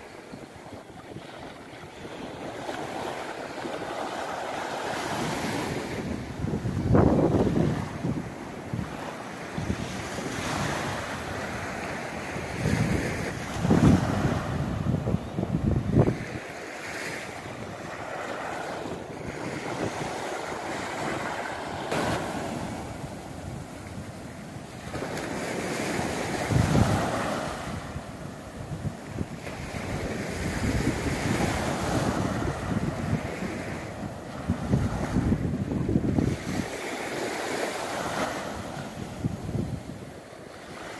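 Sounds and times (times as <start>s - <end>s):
wind buffeting microphone: 0.0s - 40.8s
sea waves washing onto shore: 0.0s - 40.9s.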